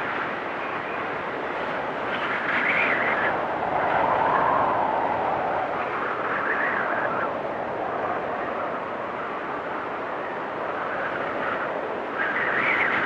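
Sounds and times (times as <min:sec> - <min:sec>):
storm wind whistling: 0:00.0 - 0:13.0.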